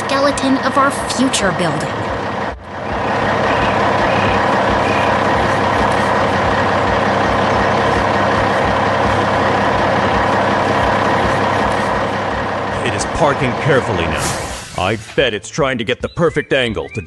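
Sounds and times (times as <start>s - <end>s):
dump truck engine running: 0.0s - 15.8s.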